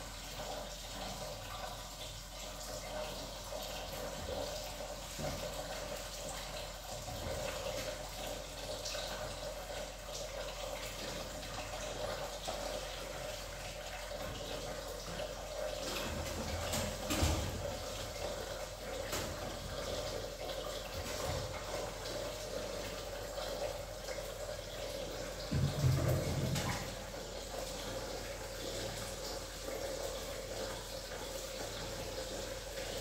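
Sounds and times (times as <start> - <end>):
dishes being washed: 0.0 - 33.0
tap water running into sink: 0.0 - 33.0.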